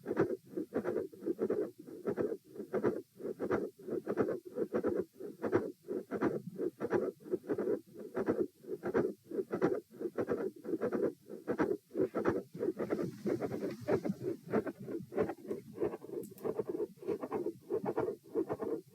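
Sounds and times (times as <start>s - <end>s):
heartbeat through stethoscope: 0.0s - 18.9s.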